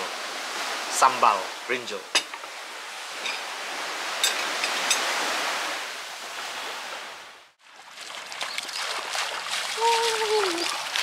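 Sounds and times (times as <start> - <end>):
sea waves washing onto beach: 0.0 - 11.0.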